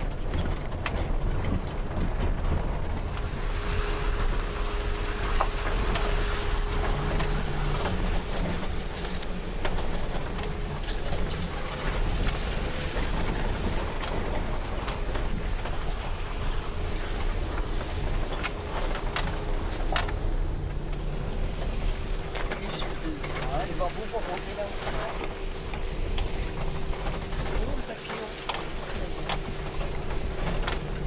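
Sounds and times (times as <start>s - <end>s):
engine and tyre rumble: 0.0s - 31.0s.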